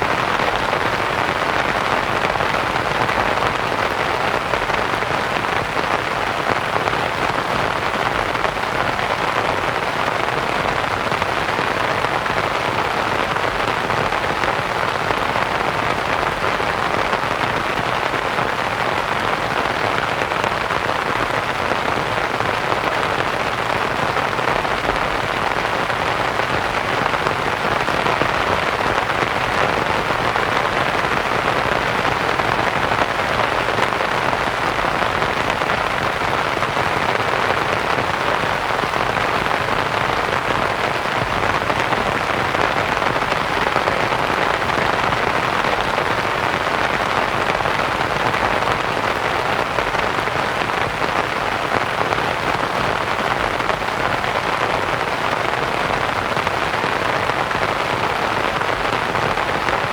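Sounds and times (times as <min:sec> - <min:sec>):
rain pattering on a canvas tent: 0:00.0 - 0:59.9.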